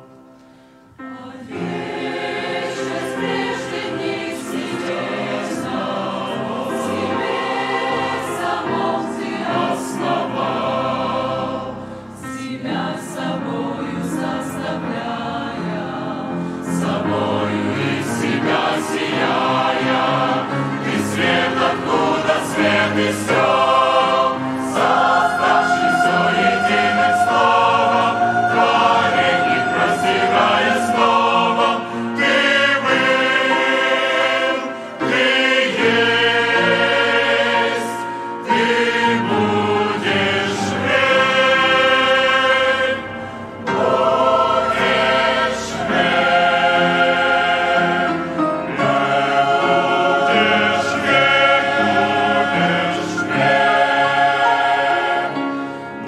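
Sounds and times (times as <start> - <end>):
choir breaths: 0.0 - 56.0
choir singing a hymn: 0.0 - 56.0.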